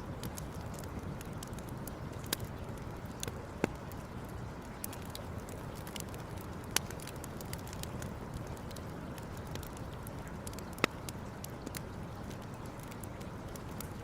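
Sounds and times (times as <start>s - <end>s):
campfire crackling: 0.0s - 14.0s
low rushing of fire: 0.0s - 14.0s.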